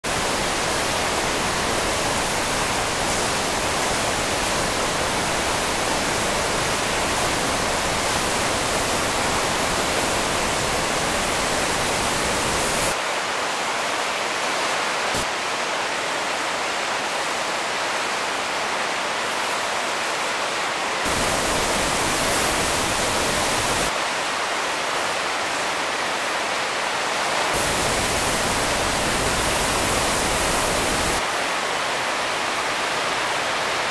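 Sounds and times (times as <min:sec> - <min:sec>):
white water roaring over rocks: 0:00.1 - 0:33.9.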